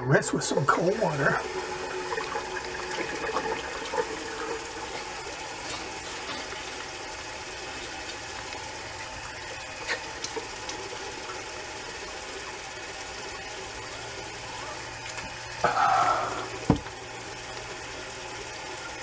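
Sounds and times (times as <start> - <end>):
tap running: 0.6 - 19.0.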